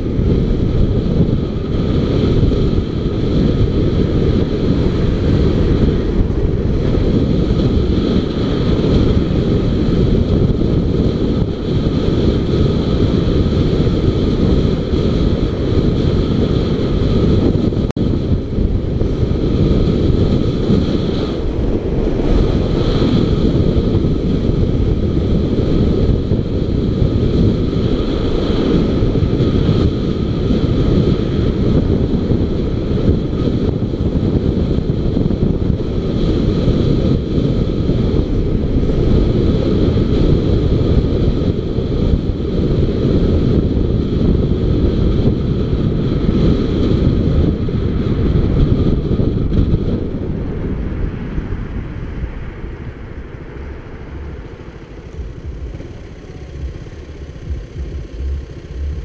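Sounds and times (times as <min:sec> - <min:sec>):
motorcycle running: 0:00.0 - 0:59.0
wind buffeting microphone: 0:00.0 - 0:59.0.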